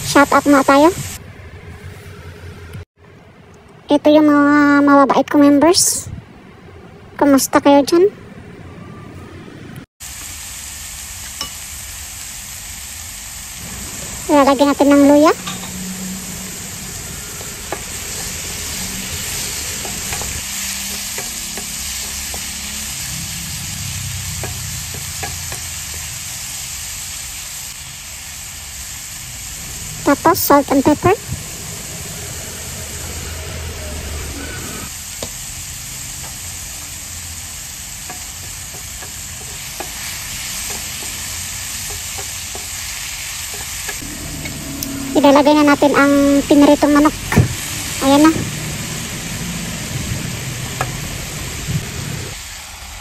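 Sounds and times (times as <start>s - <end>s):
vegetables sizzling in oil: 0.0s - 1.2s, 10.0s - 53.0s.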